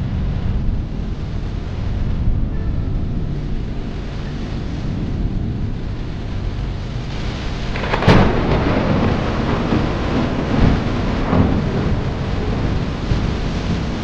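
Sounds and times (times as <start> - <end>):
low rumble: 0.0 - 14.0
steady rain: 0.0 - 14.0
thunderclap: 0.0 - 14.0.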